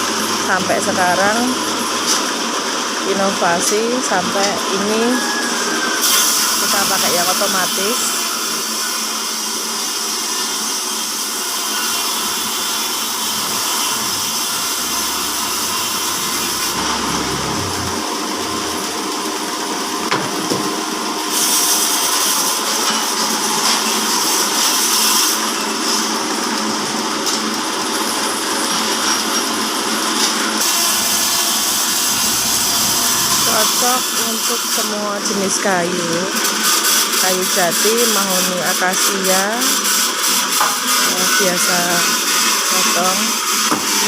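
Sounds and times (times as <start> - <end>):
band saw cutting timber: 0.0 - 44.0.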